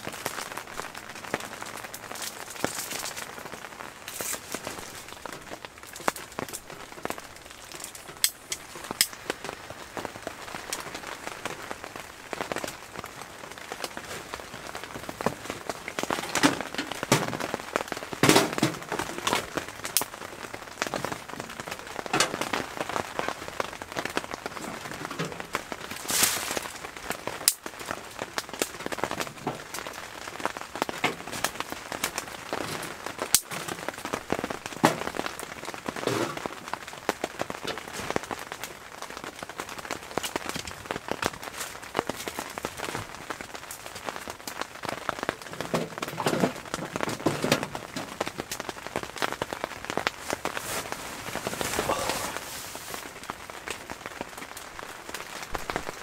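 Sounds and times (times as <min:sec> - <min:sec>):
rain pattering on tent fabric: 0:00.0 - 0:56.0
wood crackling in stove: 0:00.0 - 0:56.0.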